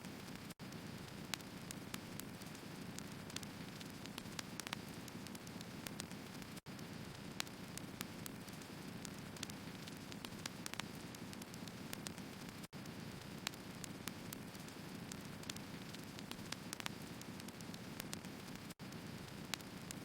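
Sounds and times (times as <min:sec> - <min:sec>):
wood crackling and popping: 0:00.0 - 0:20.0.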